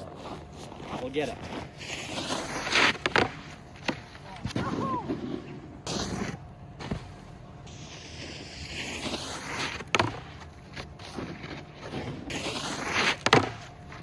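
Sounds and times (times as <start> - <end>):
snowboard scraping over snow: 0.0 - 14.0.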